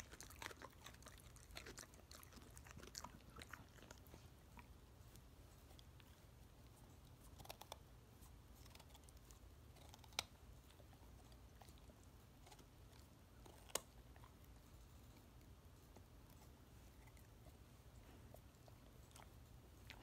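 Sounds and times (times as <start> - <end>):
dog crunching carrot: 0.0 - 20.0.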